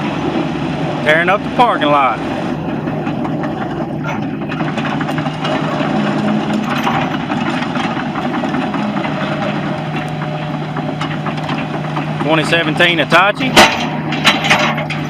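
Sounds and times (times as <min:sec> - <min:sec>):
excavator diesel engine running: 0:00.0 - 0:15.0
light rattling and clicking: 0:02.7 - 0:15.0.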